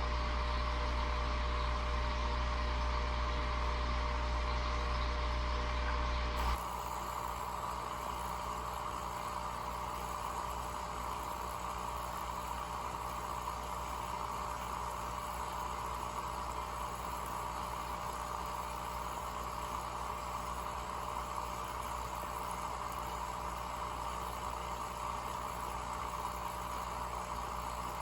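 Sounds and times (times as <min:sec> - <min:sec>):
mechanical hum and hiss: 0:00.0 - 0:28.0.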